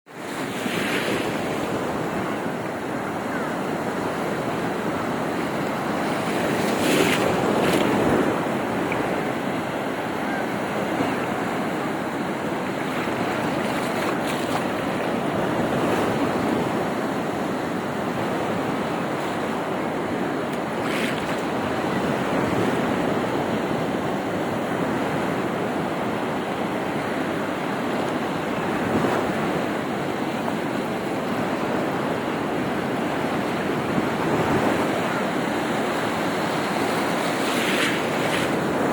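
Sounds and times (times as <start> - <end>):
waves surging and breaking: 0.1 - 38.9
wind buffeting microphone: 0.6 - 38.9.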